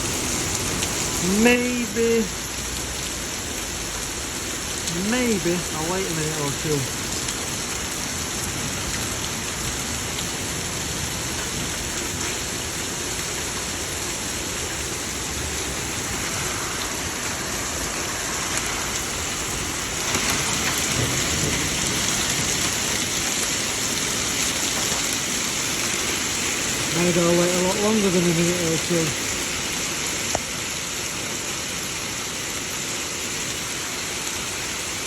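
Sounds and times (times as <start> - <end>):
heavy rain downpour: 0.0 - 35.0.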